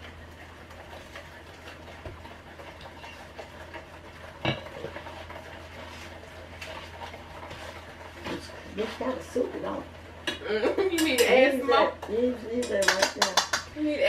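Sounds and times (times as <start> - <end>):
utensil stirring in metal bowl: 0.0 - 14.0.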